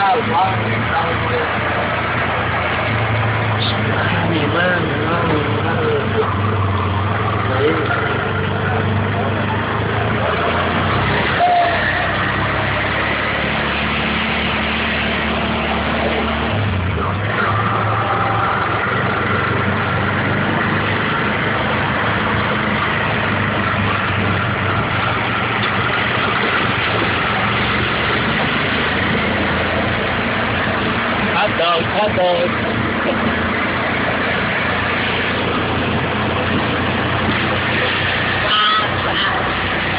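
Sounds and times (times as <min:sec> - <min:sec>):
auto-rickshaw engine running: 0:00.0 - 0:39.9.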